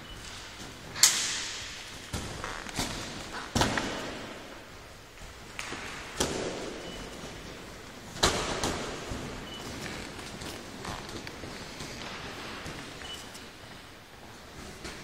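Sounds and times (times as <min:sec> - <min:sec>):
sharp thumps and slaps in hall: 0:00.3 - 0:13.2.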